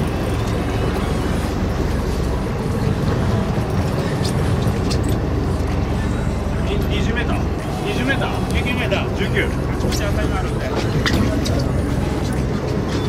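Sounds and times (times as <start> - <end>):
boat engine rumbling: 0.0 - 13.0
sea noise: 0.0 - 13.0
wind: 0.0 - 13.0.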